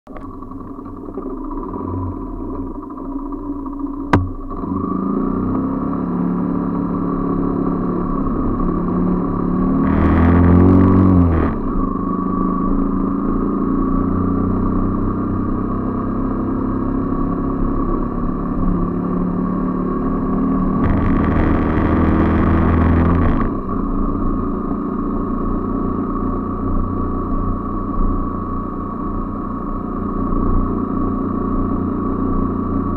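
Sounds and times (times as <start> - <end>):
small motorcycle engine running: 0.1 - 32.9.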